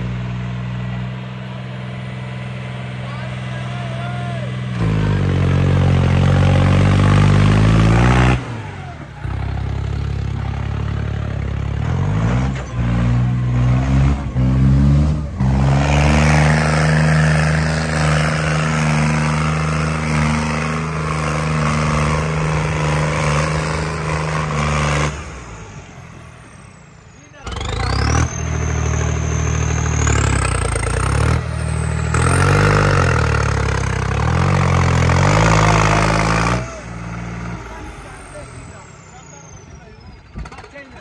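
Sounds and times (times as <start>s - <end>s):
diesel tractor engine revving: 0.0s - 41.0s.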